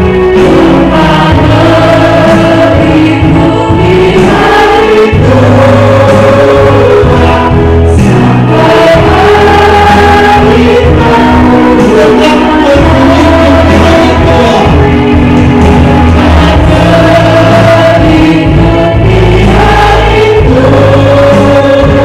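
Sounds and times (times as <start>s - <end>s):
group of voices singing: 0.0s - 22.0s
instrumental backing with bass line: 0.0s - 22.0s.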